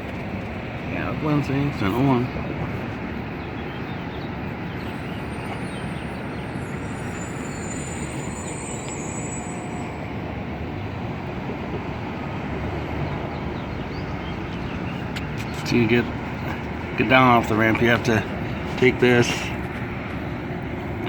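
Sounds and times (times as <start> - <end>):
city traffic hum: 0.0 - 21.0.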